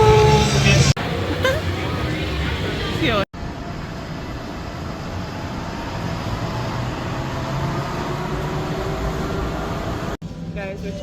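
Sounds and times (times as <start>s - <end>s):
vehicle rumbling in motion: 0.0s - 11.0s.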